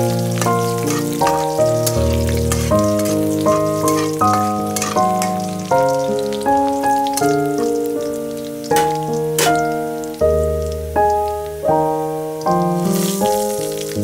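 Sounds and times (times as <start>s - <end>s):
garlic and chillies frying in oil: 0.0s - 14.0s
instrumental background music: 0.0s - 14.0s.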